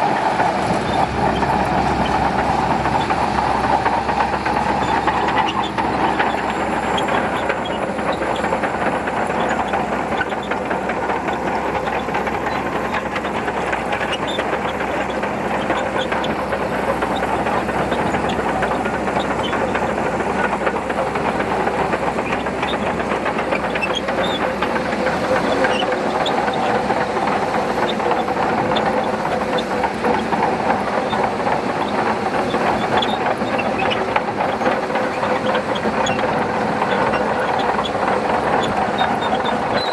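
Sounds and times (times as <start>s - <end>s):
bulldozer engine: 0.0s - 39.9s
steel tracks clattering: 0.0s - 39.9s.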